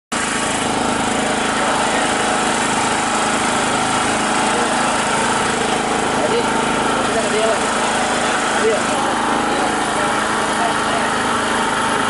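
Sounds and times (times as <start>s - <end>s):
small engine droning: 0.1s - 12.0s.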